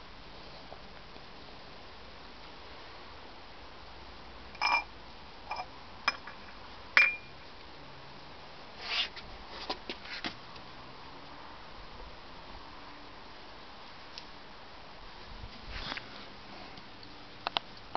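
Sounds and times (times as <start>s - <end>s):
rustle: 0.0s - 17.9s.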